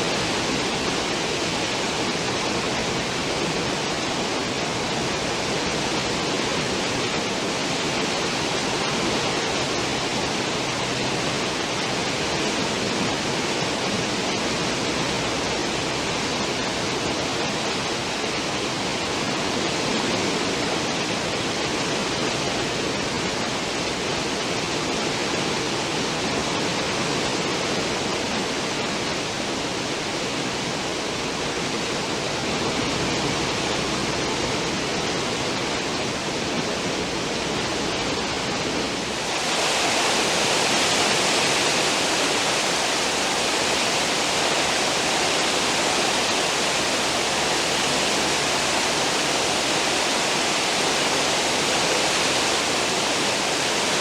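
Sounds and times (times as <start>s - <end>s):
ship wake water rushing: 0.0s - 54.0s.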